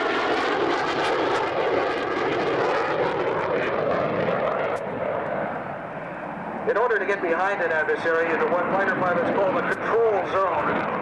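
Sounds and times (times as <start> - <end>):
jet fighter roar: 0.0 - 11.0.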